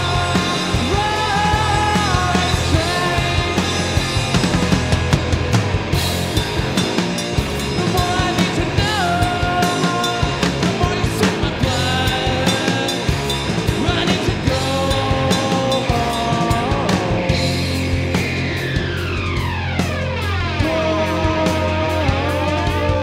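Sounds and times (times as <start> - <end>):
electric guitar bending notes: 0.0 - 23.0
rock band playing: 0.0 - 23.0.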